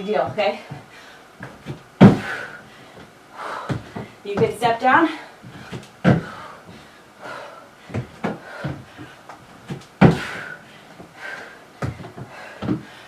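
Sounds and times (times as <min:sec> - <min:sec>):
feet thudding on a box: 0:00.1 - 0:13.0
hard breathing: 0:00.6 - 0:04.3, 0:05.1 - 0:13.0.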